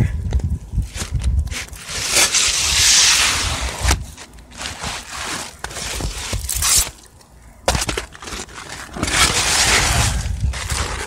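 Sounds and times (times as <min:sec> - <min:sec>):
shingle scraping on roof: 0:00.9 - 0:07.0, 0:07.6 - 0:11.0.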